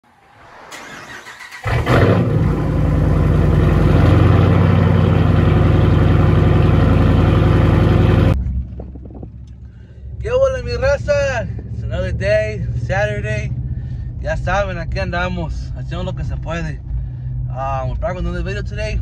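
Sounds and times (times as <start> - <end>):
vehicle engine running: 1.6 - 19.0
faint low rumble: 2.2 - 19.0.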